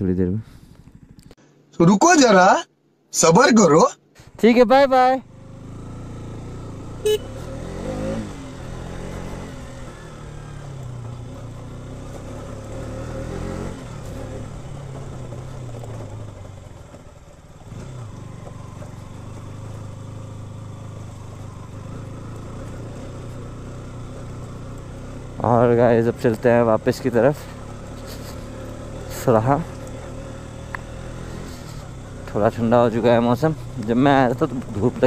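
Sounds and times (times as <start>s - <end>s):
motorcycle engine running: 4.5s - 35.0s.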